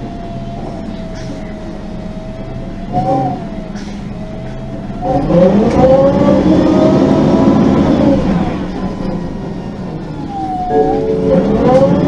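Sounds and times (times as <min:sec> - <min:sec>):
bus engine accelerating: 0:00.0 - 0:12.0.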